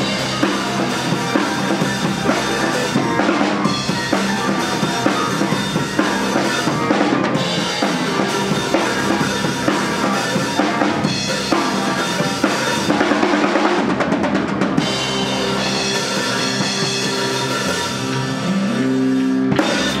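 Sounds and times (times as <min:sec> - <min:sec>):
fast drum roll: 0:00.0 - 0:18.5, 0:19.5 - 0:20.0
live rock band instrumental: 0:00.0 - 0:20.0.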